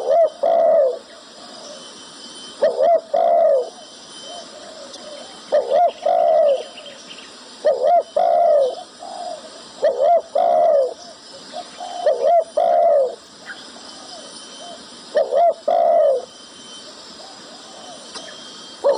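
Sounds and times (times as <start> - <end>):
dove cooing: 0.0 - 2.0, 2.6 - 18.9.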